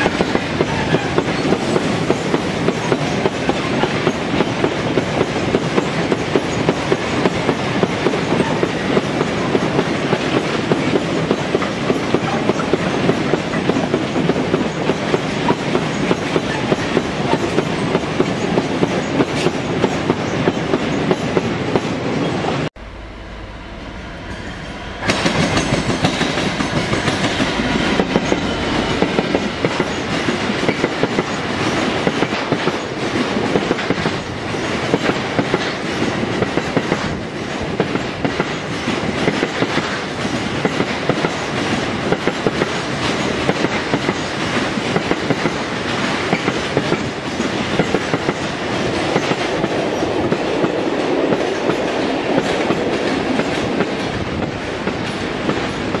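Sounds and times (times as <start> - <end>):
train wheels clattering over rail joints: 0.0 - 22.0, 25.0 - 56.0
train rumble: 0.0 - 56.0.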